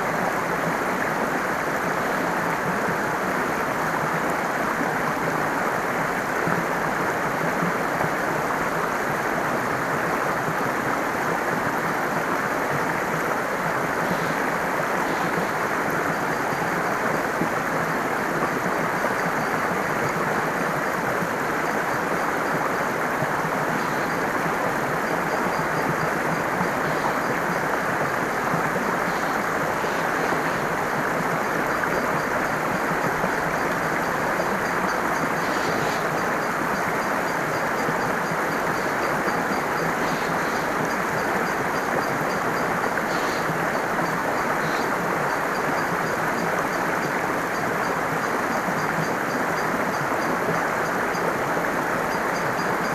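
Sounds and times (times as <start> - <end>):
water rushing: 0.0 - 52.4.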